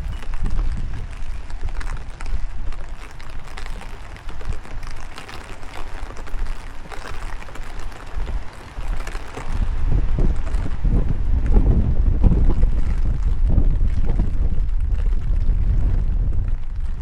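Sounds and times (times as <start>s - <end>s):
rain patter: 0.0s - 17.0s
wind buffeting microphone: 0.0s - 17.0s.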